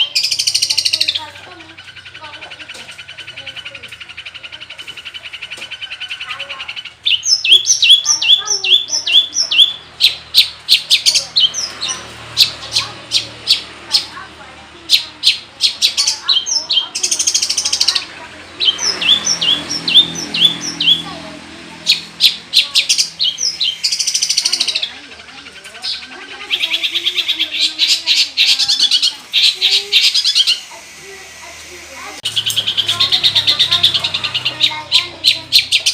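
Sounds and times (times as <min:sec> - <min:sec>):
shrike singing: 0:00.0 - 0:35.9.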